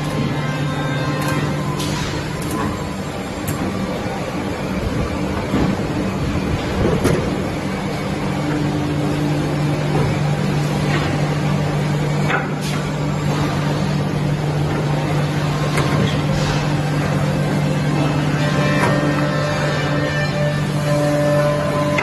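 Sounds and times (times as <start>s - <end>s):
milling machine humming: 0.0s - 22.0s.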